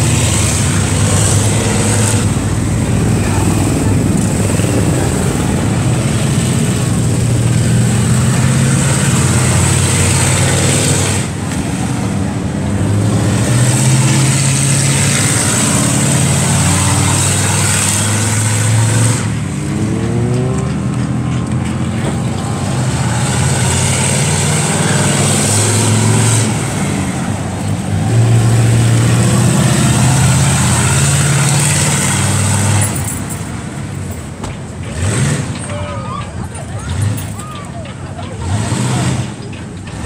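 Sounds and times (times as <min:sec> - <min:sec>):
engines running loudly: 0:00.0 - 0:40.0.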